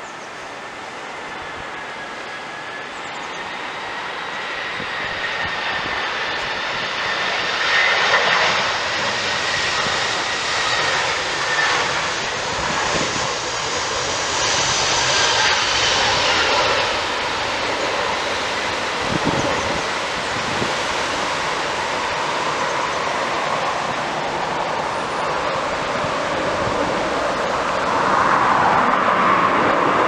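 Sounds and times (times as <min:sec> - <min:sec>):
airliner jet engines: 0:00.0 - 0:30.0.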